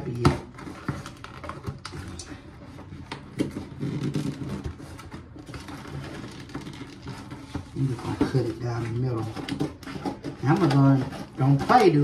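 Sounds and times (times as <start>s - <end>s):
cardboard and tape rustling: 0.0s - 12.0s.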